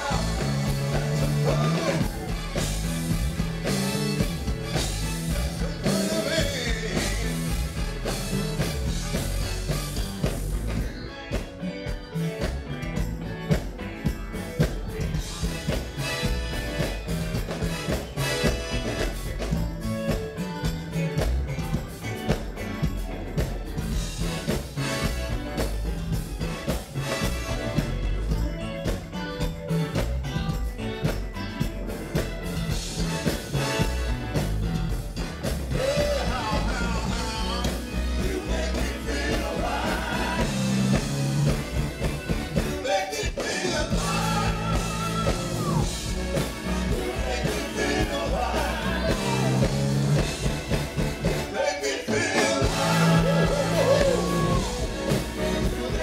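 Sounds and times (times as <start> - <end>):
electric bass line: 0.0 - 56.0
live funk band playing: 0.0 - 56.0.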